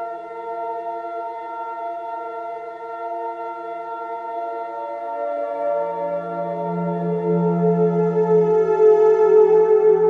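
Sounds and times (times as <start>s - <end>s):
slow ambient drone music: 0.0s - 10.0s.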